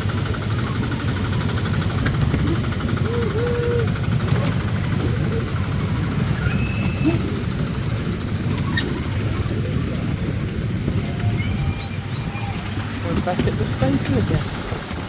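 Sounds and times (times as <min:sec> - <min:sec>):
fast even clatter: 0:00.0 - 0:15.0
ride train rumbling: 0:00.0 - 0:15.0.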